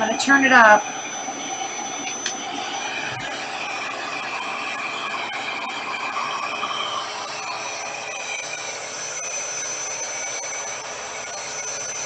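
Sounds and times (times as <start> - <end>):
hair dryer rushing air: 0.0 - 12.0
thin high whine: 0.0 - 12.0.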